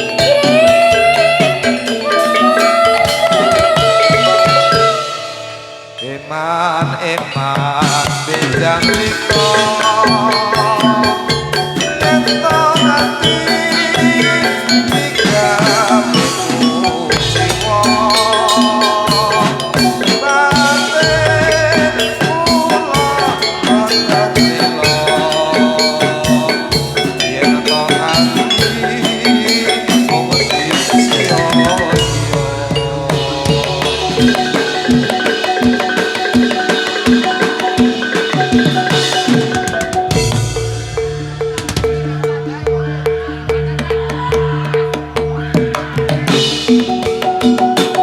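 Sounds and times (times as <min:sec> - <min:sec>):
gamelan metal mallet instruments: 0:00.0 - 0:48.0
metallophones and drums: 0:00.0 - 0:48.0
wavering held melody: 0:00.0 - 0:48.0.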